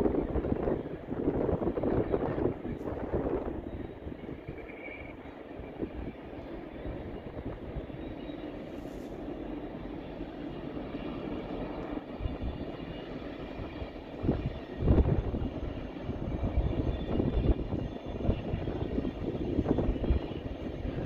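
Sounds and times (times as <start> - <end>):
distant passenger train rumble: 0.0 - 21.0.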